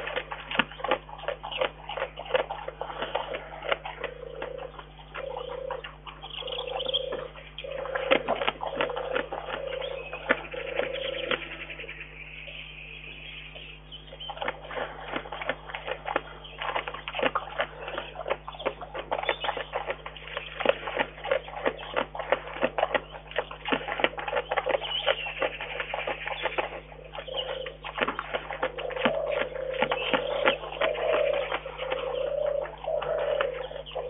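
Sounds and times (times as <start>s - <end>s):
bear licking and chewing: 0.0s - 11.6s, 13.8s - 34.0s.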